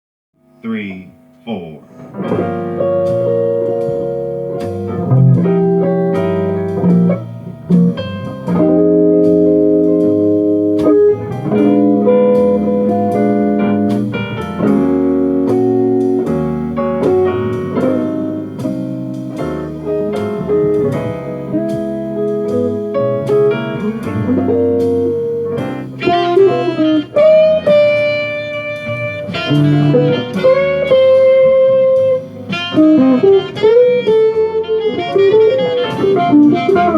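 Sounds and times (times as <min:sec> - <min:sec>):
plucked guitar: 0:00.5 - 0:36.9
instrumental jazz: 0:01.3 - 0:36.9.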